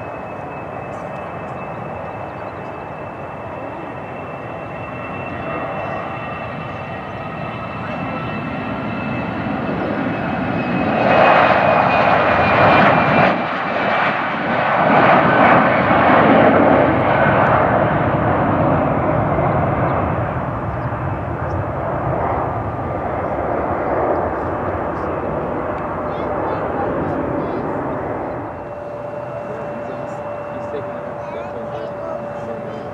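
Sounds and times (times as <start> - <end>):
jet taking off: 0.0 - 32.9.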